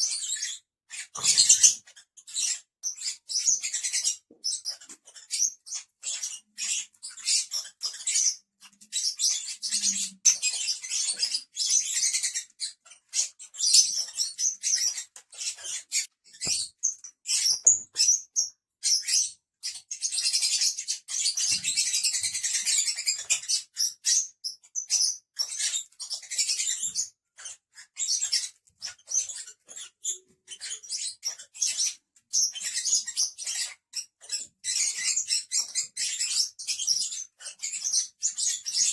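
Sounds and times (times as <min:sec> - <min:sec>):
lovebirds chirping and squeaking: 0:00.0 - 0:38.9.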